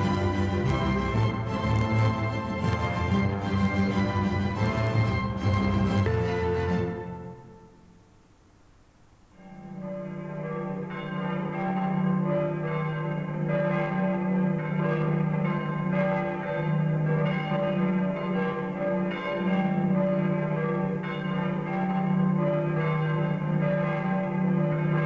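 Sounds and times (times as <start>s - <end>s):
church bells pealing: 0.0s - 7.8s, 9.4s - 25.0s.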